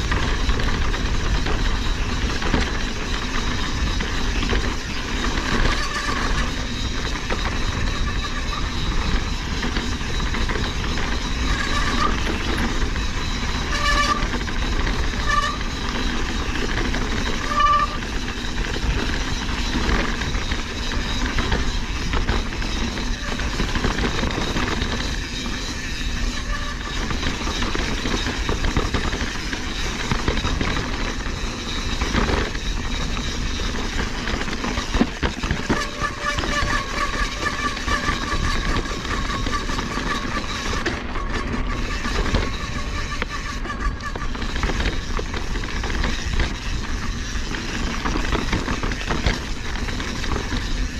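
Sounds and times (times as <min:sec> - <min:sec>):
bike chain and tyres rattling: 0:00.0 - 0:50.9
short high-pitched squeaks: 0:00.0 - 0:50.9.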